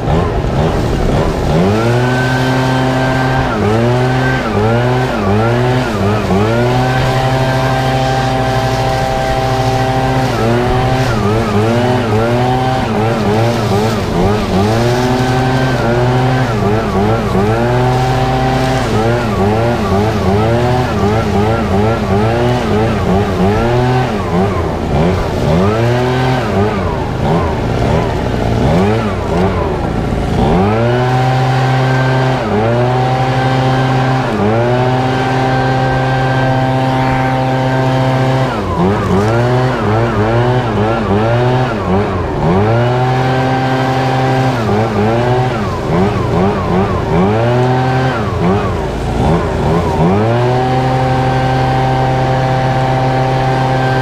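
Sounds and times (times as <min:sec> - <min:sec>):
leaf blower revving: 0:00.0 - 0:54.0.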